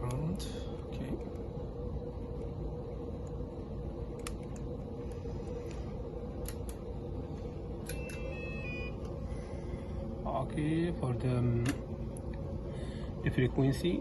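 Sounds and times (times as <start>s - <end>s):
lab room hum: 0.0s - 14.0s.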